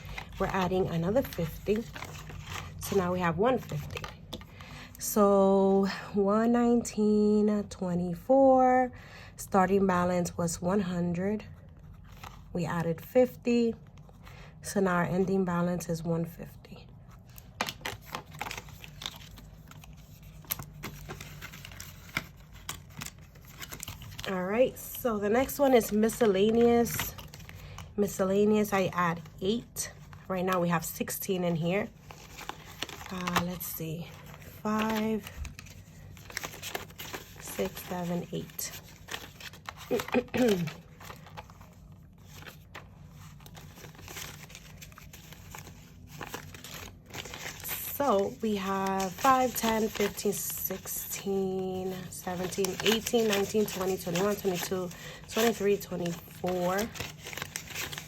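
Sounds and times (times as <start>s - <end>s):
paper envelopes and bills rustling: 0.0s - 6.0s, 11.4s - 15.2s, 16.8s - 58.0s.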